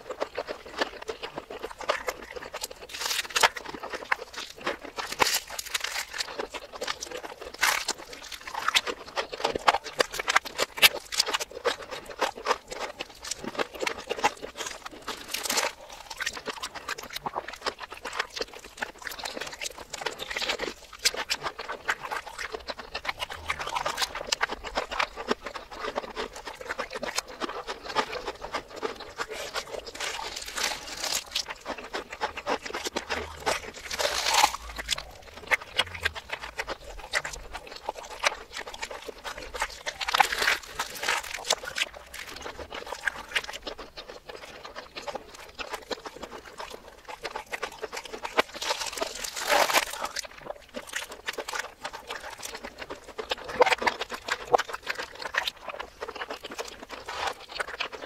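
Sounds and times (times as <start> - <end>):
reversed crunching and chewing: 0.0 - 58.0.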